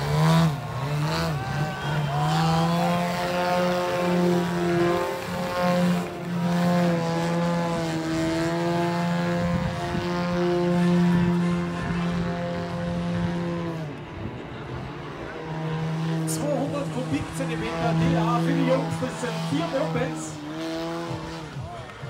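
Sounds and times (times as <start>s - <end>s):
model airplane engine running: 0.0s - 21.6s.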